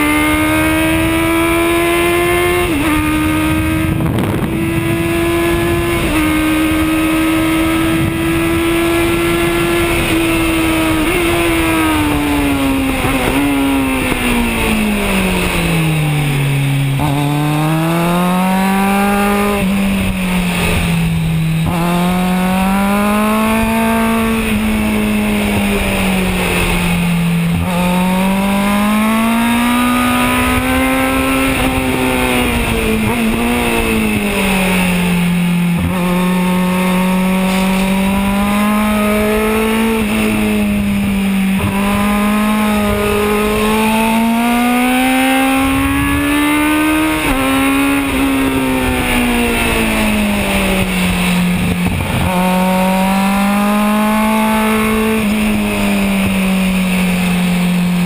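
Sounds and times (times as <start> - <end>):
motorcycle engine accelerating: 0.0 - 58.0
wind noise: 0.0 - 58.0.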